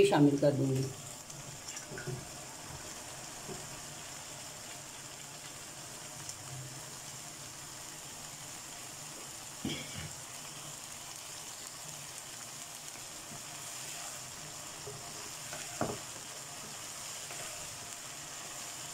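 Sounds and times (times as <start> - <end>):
masala sizzling in a wok: 0.0 - 18.9.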